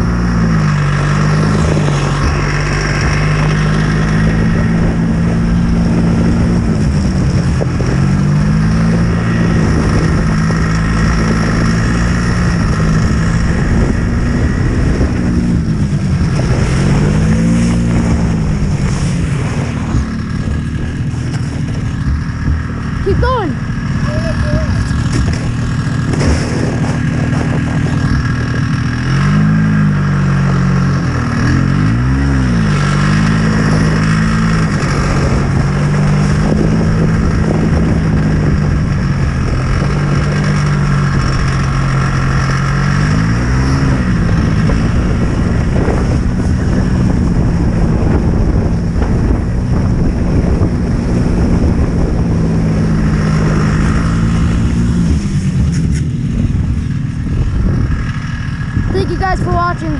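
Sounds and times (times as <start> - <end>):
continuous rushing noise: 0.0 - 59.9
snowmobile engine running: 0.0 - 59.9.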